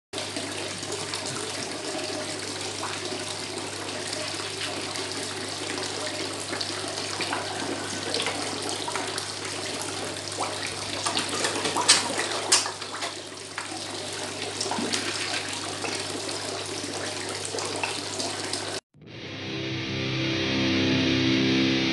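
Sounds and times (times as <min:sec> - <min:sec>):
water pouring into pond: 0:00.2 - 0:18.8
water splashes: 0:00.2 - 0:18.8.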